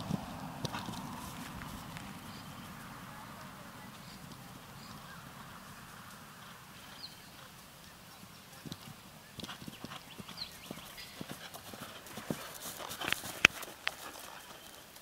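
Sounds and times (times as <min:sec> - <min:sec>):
horse hoofbeats on hard ground: 0:00.0 - 0:15.0.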